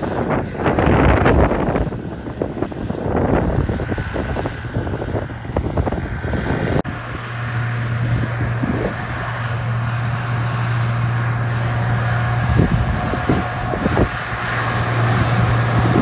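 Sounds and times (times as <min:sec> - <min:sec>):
vehicle engine droning: 0:00.0 - 0:16.0
wind noise on microphone: 0:00.0 - 0:16.0.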